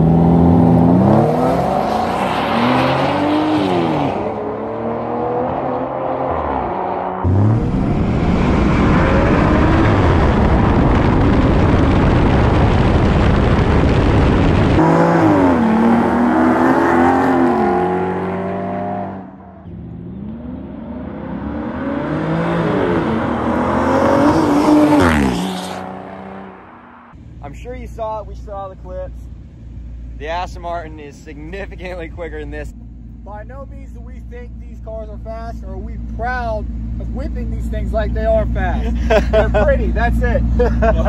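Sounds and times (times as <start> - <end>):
car engines accelerating hard: 0.0 - 28.5, 30.2 - 41.0.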